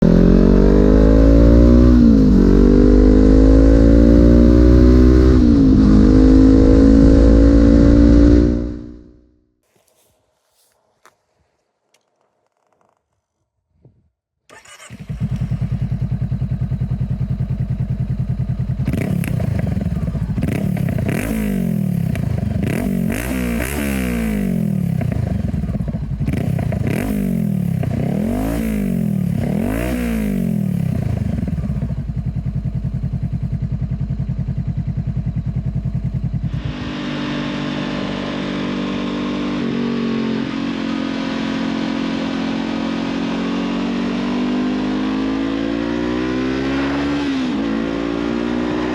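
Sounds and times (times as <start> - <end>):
motorcycle engine idling and revving: 0.0 - 9.4, 14.5 - 48.9.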